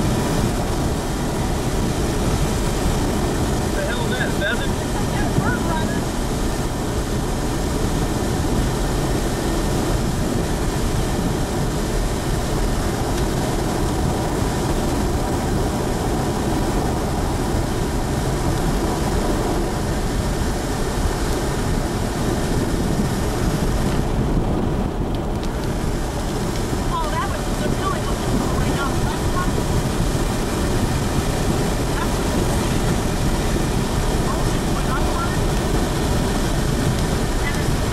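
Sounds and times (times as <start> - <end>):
vehicle driving on gravel: 0.0 - 37.9.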